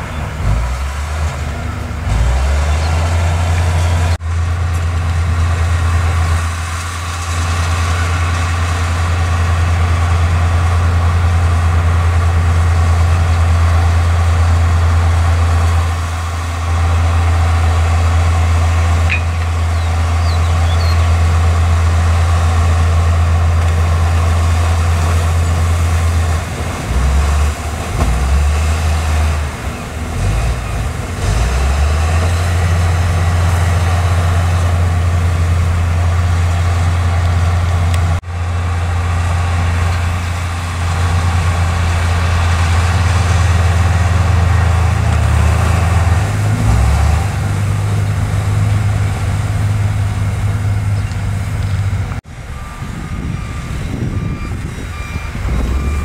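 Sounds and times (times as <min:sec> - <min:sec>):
bulldozer diesel engine: 0:00.0 - 0:56.0
dump truck engine running: 0:00.0 - 0:56.0.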